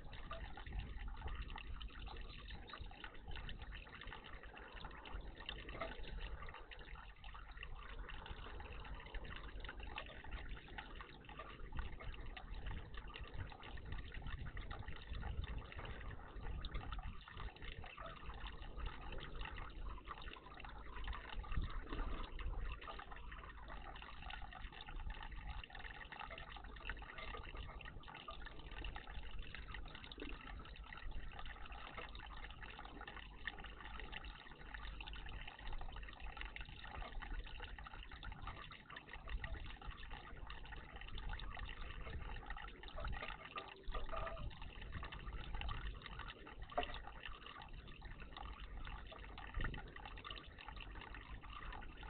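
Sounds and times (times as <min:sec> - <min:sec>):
water splashing in bird bath: 0:00.0 - 0:52.0.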